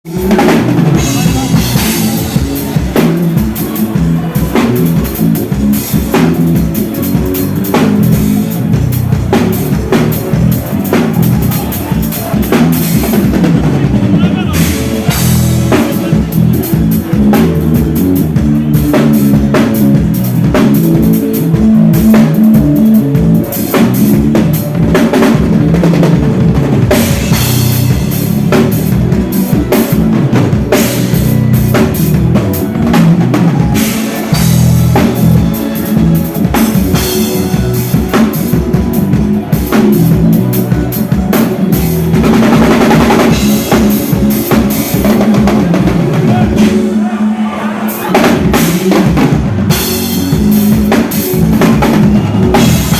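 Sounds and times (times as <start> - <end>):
drum kit beat: 0.0 - 52.9.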